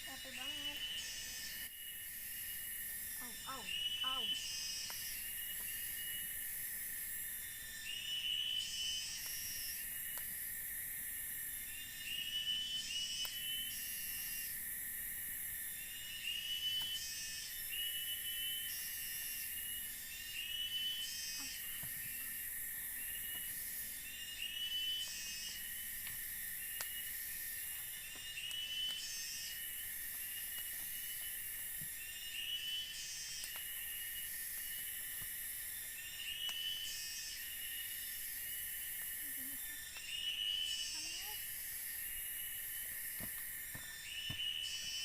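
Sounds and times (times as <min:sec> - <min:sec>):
insect chirping call: 0:00.0 - 0:45.0
insects buzzing: 0:00.0 - 0:45.0.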